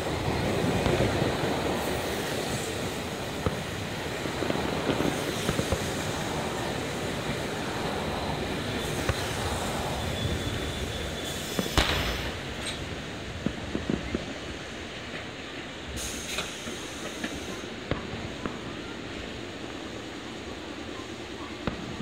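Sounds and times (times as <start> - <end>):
distant fireworks banging: 0.0 - 15.6, 16.4 - 22.0.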